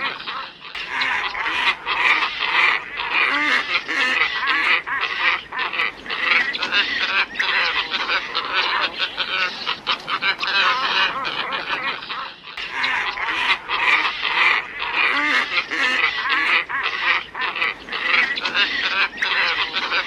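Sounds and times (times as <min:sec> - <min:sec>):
flock of ibises calling: 0:00.0 - 0:20.0.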